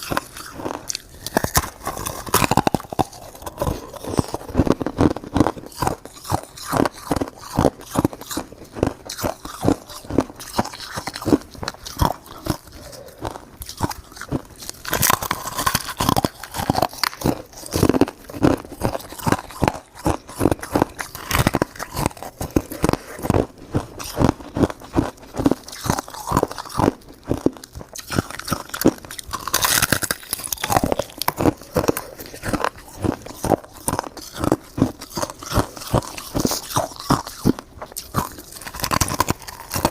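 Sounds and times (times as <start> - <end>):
chewing crunchy shaved ice: 0.0 - 39.9.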